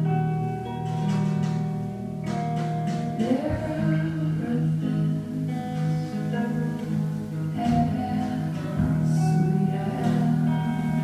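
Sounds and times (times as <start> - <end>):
plucked guitar song: 0.0 - 11.0.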